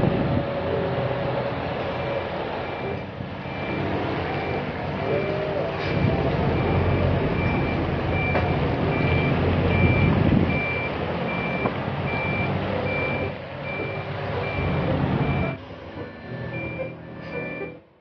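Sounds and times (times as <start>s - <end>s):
diesel engine rumble: 0.0s - 18.0s
high warning beeps: 2.0s - 17.8s.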